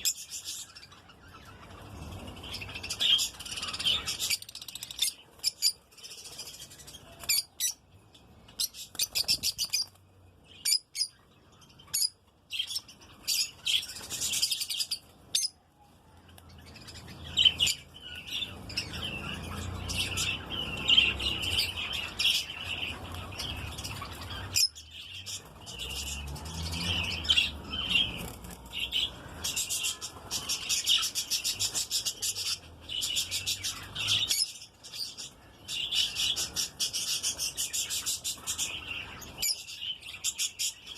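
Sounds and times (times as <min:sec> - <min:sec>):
bird chicks chirping: 0:00.0 - 0:40.9.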